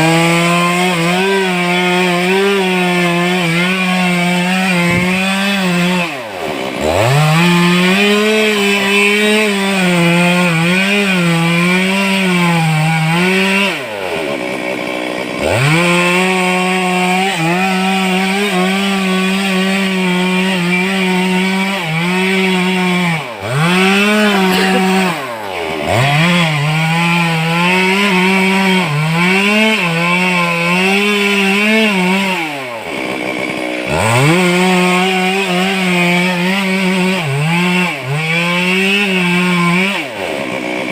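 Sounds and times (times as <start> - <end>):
chainsaw cutting through wood: 0.0 - 40.9.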